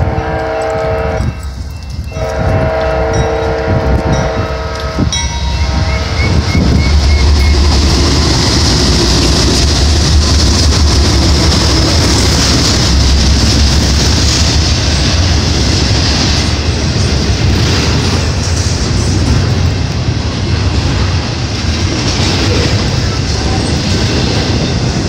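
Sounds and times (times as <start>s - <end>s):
diesel locomotive engines rumbling: 0.0s - 25.0s
train wheels on rails: 0.0s - 25.0s.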